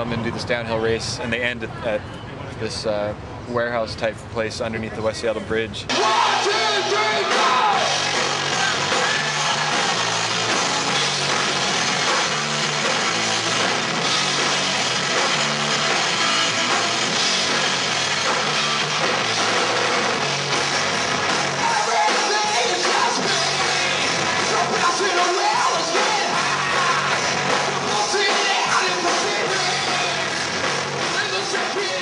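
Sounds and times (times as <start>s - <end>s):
rock band playing: 5.9s - 32.0s.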